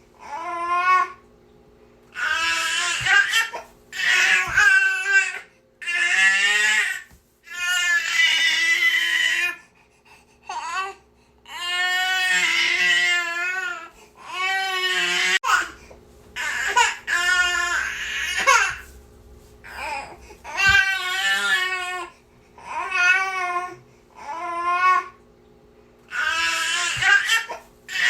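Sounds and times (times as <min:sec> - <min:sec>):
baby crying: 0:02.2 - 0:09.6, 0:10.5 - 0:15.8, 0:16.4 - 0:18.9, 0:19.7 - 0:25.2, 0:26.1 - 0:28.0.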